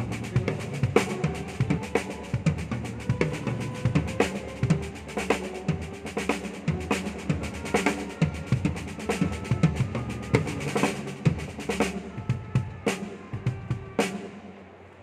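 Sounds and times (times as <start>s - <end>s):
drum kit groove: 0.0s - 14.5s.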